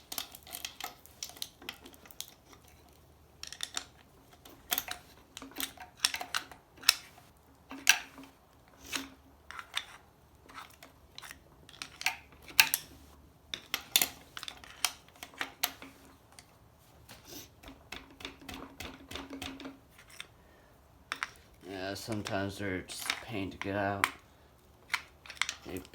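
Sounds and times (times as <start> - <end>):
screwdriver clicking and scraping metal: 0.0 - 16.5, 17.1 - 20.4, 21.1 - 24.2, 24.8 - 25.9.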